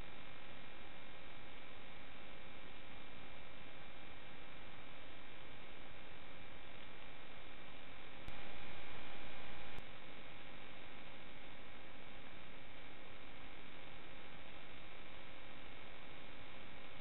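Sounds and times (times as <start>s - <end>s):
faint buzz of steady tones: 0.0s - 17.0s
static hiss: 0.0s - 17.0s.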